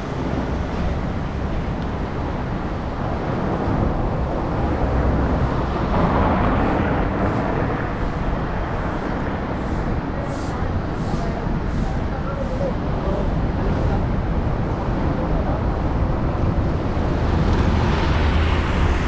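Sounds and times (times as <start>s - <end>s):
street traffic: 0.0s - 19.0s
wind rumble on microphone: 0.0s - 19.0s.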